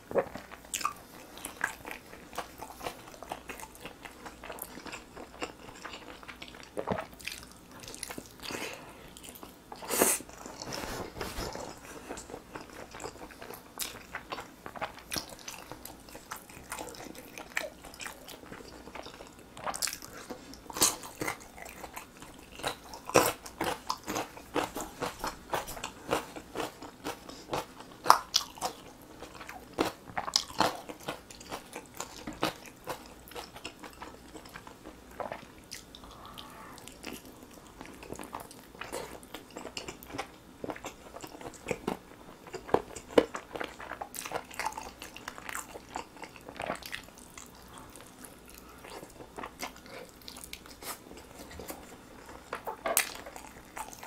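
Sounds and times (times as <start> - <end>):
chewing meat: 0.0 - 54.0.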